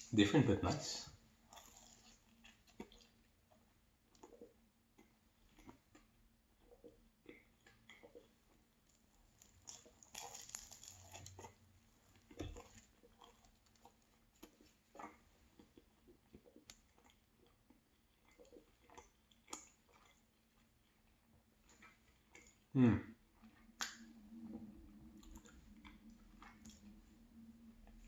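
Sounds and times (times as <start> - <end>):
chewing flaky pastry: 0.8 - 28.0.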